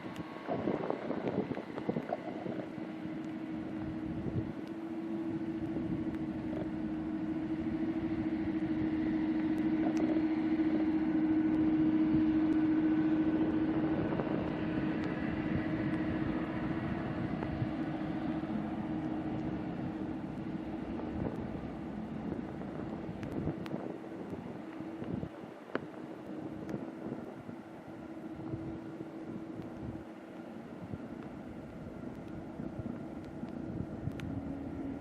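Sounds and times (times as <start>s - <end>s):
jet engines humming: 0.0s - 35.0s
wind buffeting microphone: 0.0s - 35.0s.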